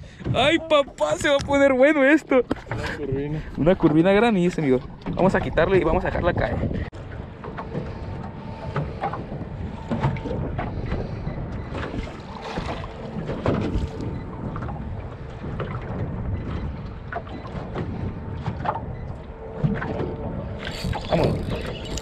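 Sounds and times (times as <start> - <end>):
wind buffeting microphone: 0.0 - 22.0
water slapping against boat hull: 0.1 - 22.0.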